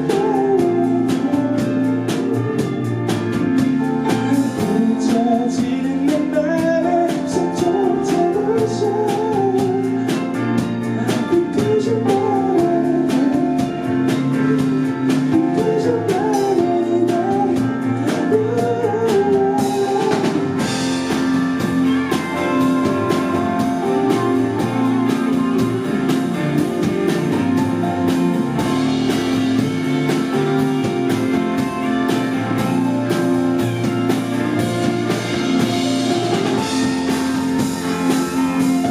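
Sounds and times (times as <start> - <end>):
band playing: 0.0 - 38.9
wavering lead melody: 0.0 - 38.9.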